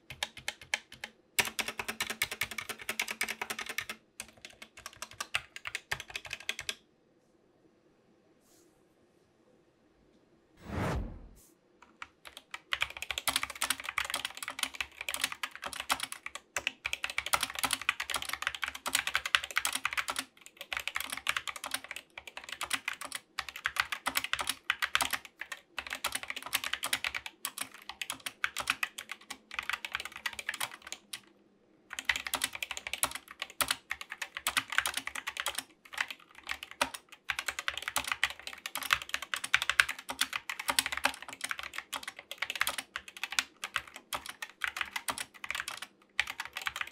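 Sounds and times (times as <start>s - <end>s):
mechanical keyboard typing: 0.0s - 6.8s, 11.8s - 31.3s, 31.9s - 46.9s.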